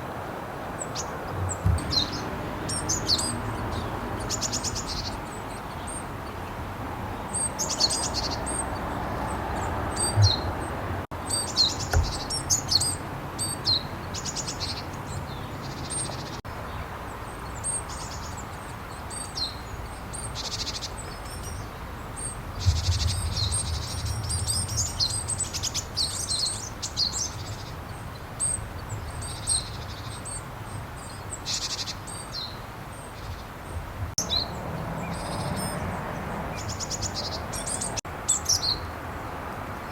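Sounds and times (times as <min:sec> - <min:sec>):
bird chirping and buzzy calls: 0:00.7 - 0:38.9.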